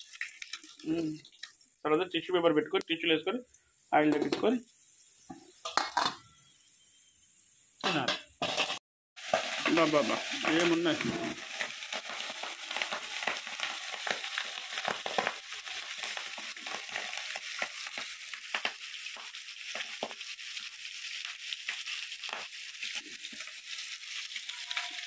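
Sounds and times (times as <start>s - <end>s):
oil sizzling and popping: 0.0s - 25.0s.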